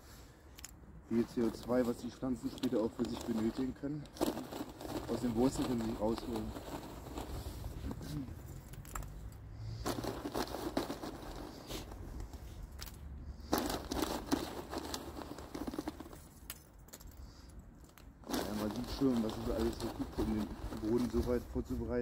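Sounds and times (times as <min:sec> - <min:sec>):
soil and charcoal crunching: 0:00.5 - 0:22.0.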